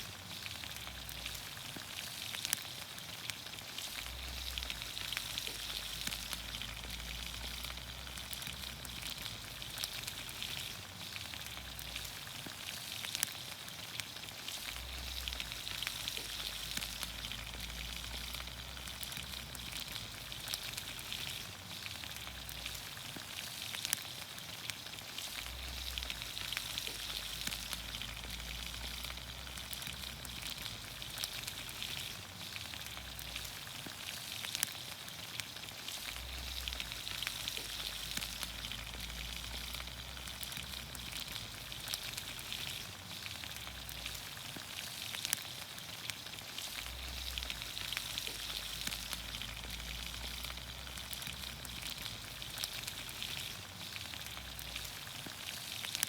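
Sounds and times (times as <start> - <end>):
campfire crackles and pops: 0.0 - 56.0
vegetables sizzling in oil: 0.0 - 56.0.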